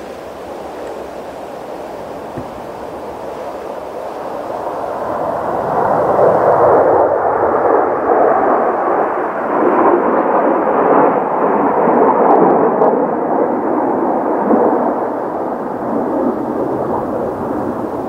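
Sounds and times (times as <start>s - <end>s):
jet engines roaring: 0.0s - 18.0s
wind buffeting microphone: 0.0s - 18.0s.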